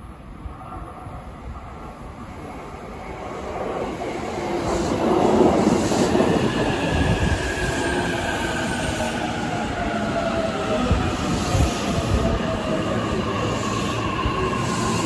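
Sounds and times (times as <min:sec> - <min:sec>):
thin train whine: 0:00.0 - 0:15.0
train wheels rumbling on rails: 0:01.5 - 0:15.0.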